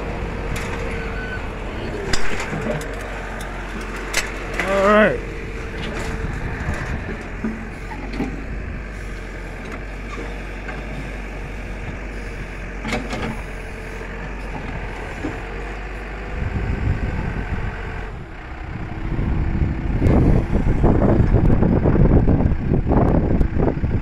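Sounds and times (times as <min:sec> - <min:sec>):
backhoe engine running: 0:00.0 - 0:24.0.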